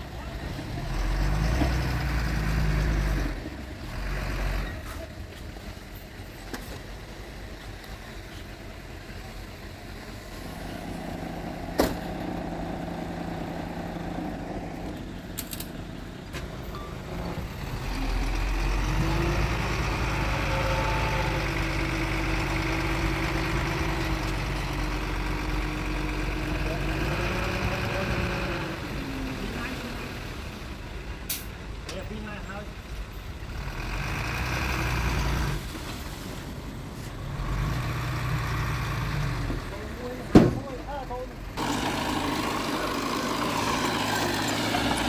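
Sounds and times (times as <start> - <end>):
heavy diesel machinery engine: 0.0 - 45.0.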